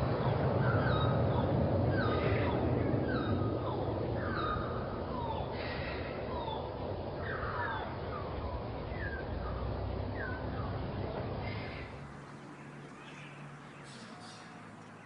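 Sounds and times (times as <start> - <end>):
low background rumble: 0.0 - 13.2
birds chirping: 0.0 - 15.0.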